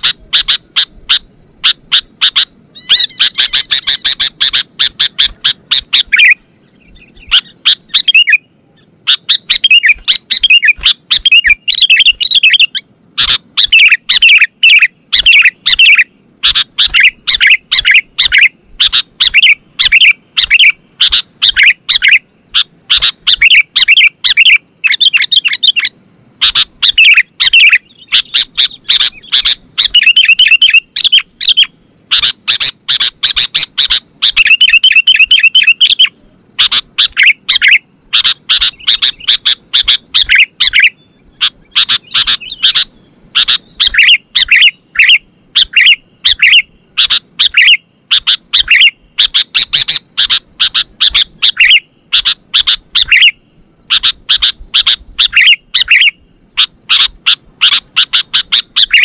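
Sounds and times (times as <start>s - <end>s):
bird calls rapid chirping: 0.0s - 59.0s
faint high hiss: 0.0s - 59.0s.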